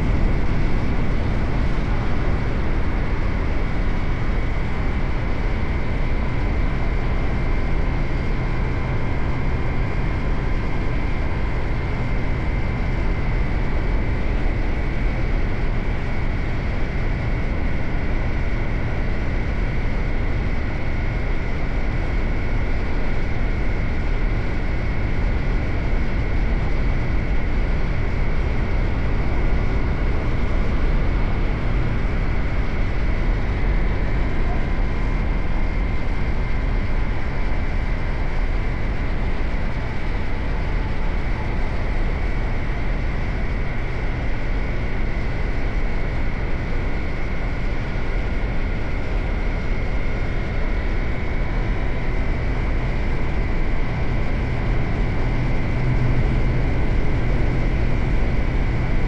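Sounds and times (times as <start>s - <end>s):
low riding noise rumble: 0.0s - 59.0s.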